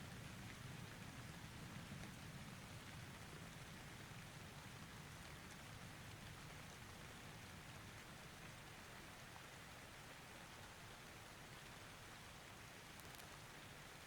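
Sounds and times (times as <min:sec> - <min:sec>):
faint steady rain: 0:00.0 - 0:14.0.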